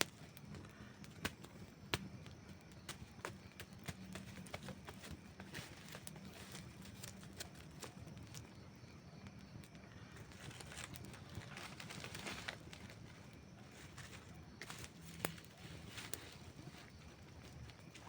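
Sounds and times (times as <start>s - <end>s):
campfire crackling and popping: 0.0s - 18.0s
low rumble of flames: 0.0s - 18.0s.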